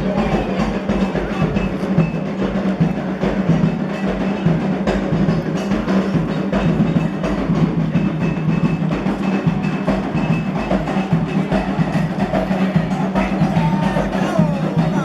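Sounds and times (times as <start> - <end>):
hand drums: 0.0 - 15.0
struck bell: 0.0 - 15.0.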